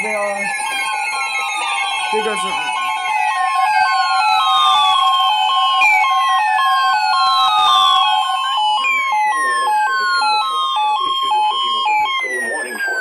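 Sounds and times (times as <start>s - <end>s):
alternating hi-lo alert tones: 0.0s - 13.0s
falling siren wail: 0.0s - 13.0s.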